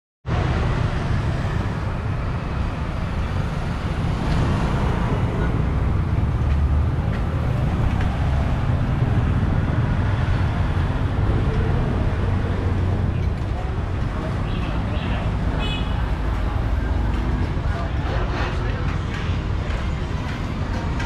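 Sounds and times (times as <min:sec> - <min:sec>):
scooters and cars passing: 0:00.3 - 0:21.0.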